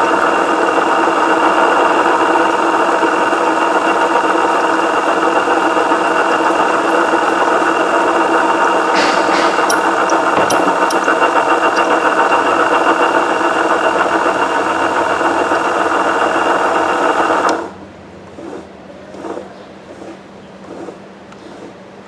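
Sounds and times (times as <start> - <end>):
coil winder motor whining: 0.0 - 19.4.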